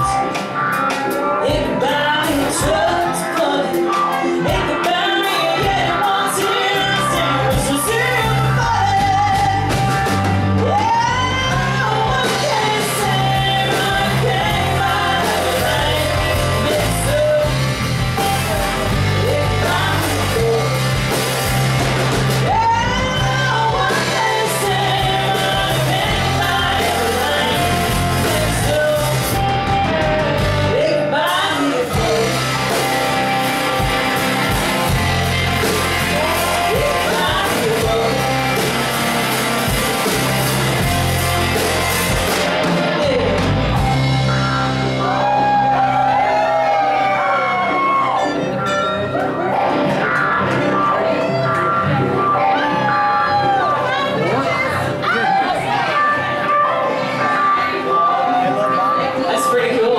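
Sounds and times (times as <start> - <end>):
live country band playing: 0.0 - 59.9
woman singing lead: 0.0 - 59.9.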